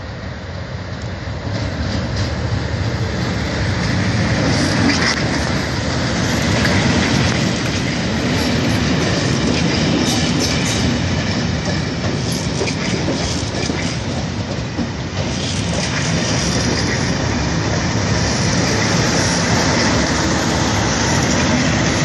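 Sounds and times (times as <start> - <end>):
diesel locomotive passing: 0.0 - 22.0
coaches clattering over rail joints: 1.4 - 22.0.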